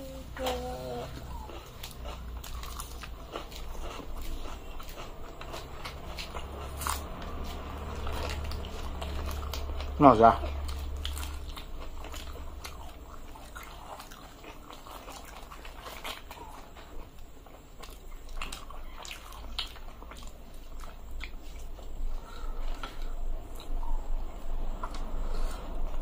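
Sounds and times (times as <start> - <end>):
low steady hum: 0.0 - 26.0
chewing and mouth sounds: 0.2 - 26.0.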